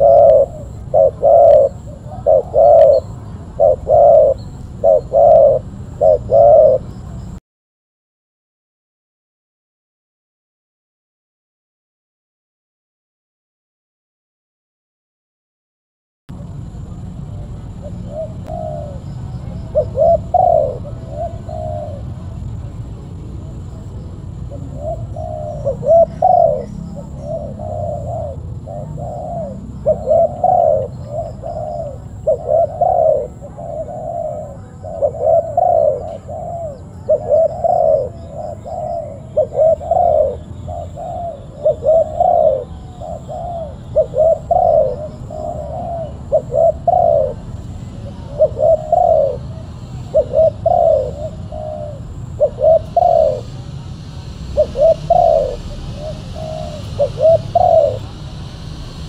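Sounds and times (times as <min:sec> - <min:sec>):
dove cooing: 0:00.0 - 0:07.4, 0:16.4 - 0:59.0.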